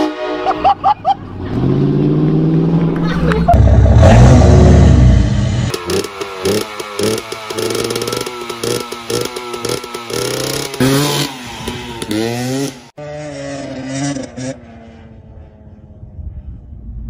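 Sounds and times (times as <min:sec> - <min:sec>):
engine revving: 0:01.3 - 0:15.9.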